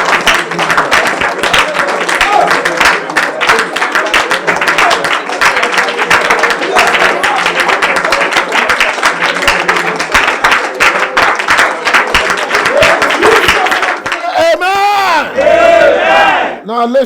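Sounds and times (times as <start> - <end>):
people clapping: 0.0 - 16.4
congregation praying aloud: 0.0 - 17.0.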